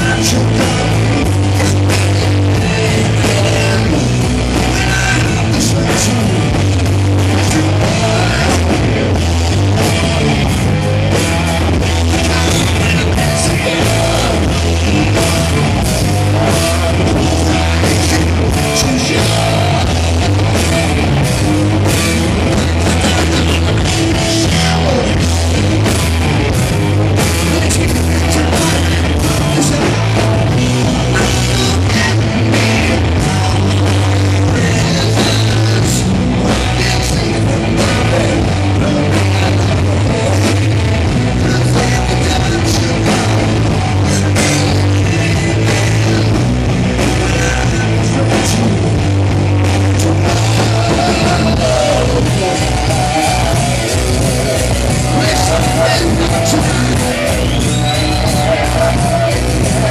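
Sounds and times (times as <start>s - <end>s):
man singing: 0.0s - 26.2s, 27.1s - 49.0s, 49.7s - 59.9s
electric guitar: 0.0s - 59.9s
pounding drum kit: 0.0s - 59.9s.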